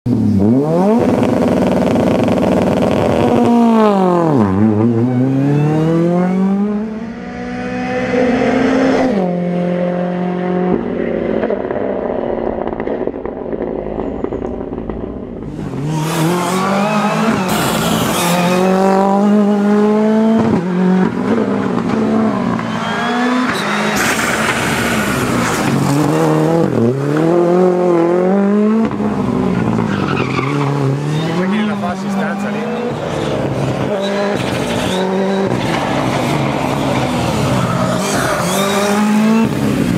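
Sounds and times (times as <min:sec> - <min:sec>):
rally car engine revving: 0:00.1 - 0:39.9.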